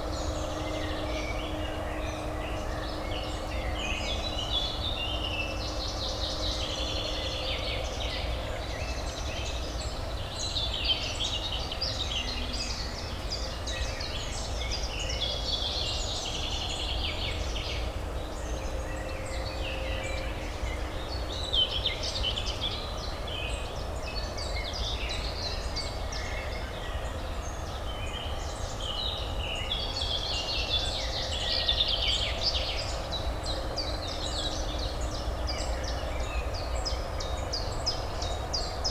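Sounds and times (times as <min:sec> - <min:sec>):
low urban hum: 0:00.0 - 0:38.9.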